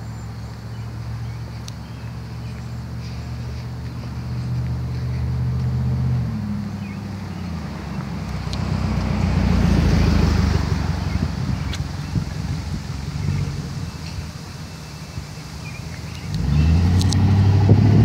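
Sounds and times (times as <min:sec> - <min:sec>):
low engine hum: 0:00.0 - 0:18.0
car passing close by: 0:00.7 - 0:18.0.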